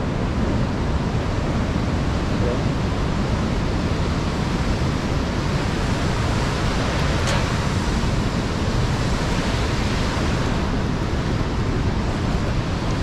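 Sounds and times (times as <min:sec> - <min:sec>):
rushing whitewater: 0:00.0 - 0:13.0.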